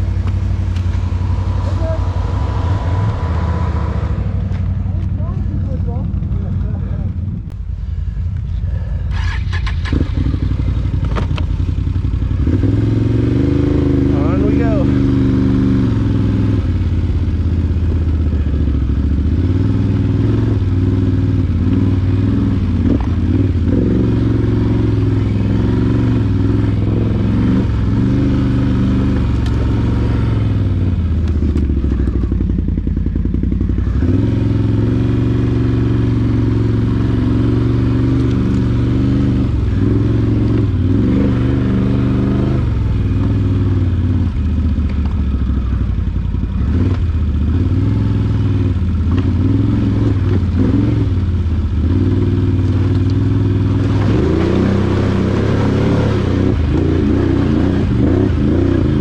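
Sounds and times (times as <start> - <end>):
atv engine revving: 0.0 - 8.0, 8.7 - 59.0.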